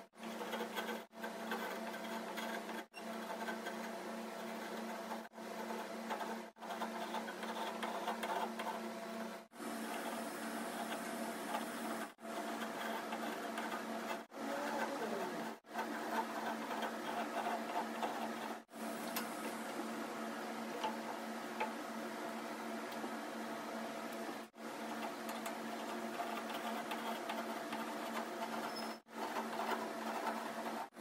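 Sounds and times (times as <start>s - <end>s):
workshop machine hum: 0.0s - 31.0s.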